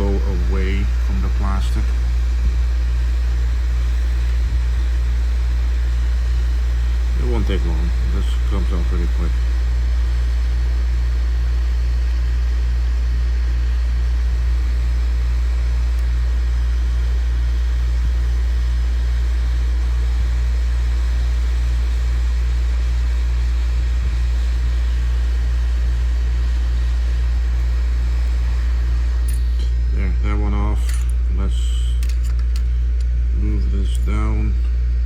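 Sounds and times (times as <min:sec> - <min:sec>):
pulsing low hum: 0:00.0 - 0:35.0.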